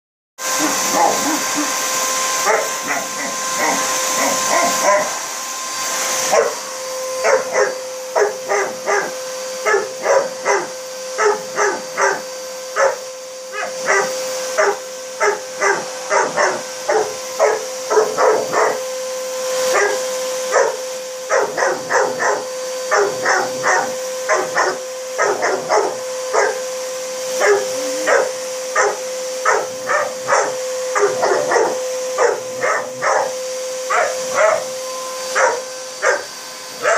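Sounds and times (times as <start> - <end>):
vacuum cleaner motor whine: 0.4 - 36.9
puppy barking: 0.6 - 1.7, 2.4 - 5.2, 6.3 - 6.6, 7.2 - 18.8, 19.7 - 26.6, 27.4 - 34.7, 35.4 - 36.9.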